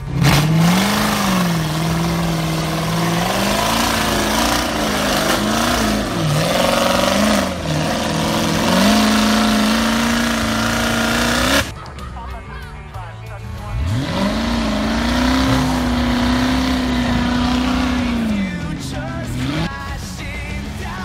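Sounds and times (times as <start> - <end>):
buggy engine revving: 0.0 - 11.9, 12.6 - 21.0.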